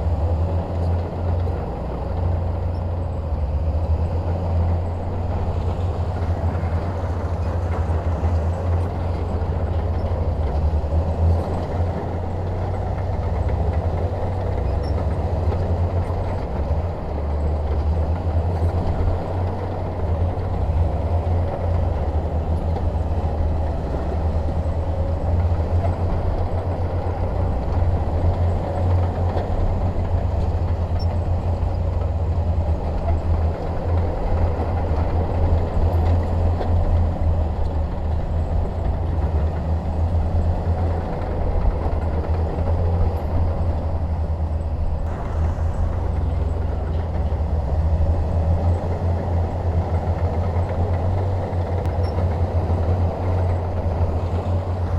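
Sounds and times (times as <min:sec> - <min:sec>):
bulldozer diesel engine rumbling: 0:00.0 - 0:54.9.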